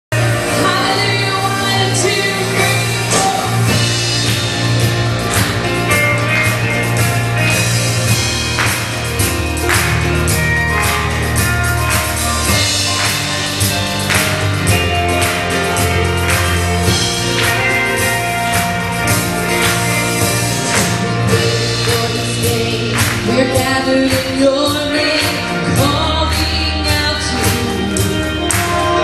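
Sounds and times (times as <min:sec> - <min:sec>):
bass line: 0:00.1 - 0:29.0
rock worship band with singing: 0:00.2 - 0:29.0.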